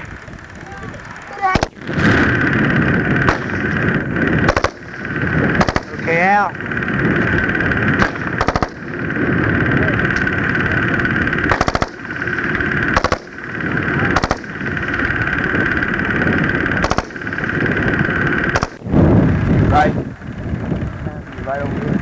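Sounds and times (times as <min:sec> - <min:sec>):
rapid clicks: 0:00.0 - 0:18.9
film camera whirring: 0:00.0 - 0:22.0.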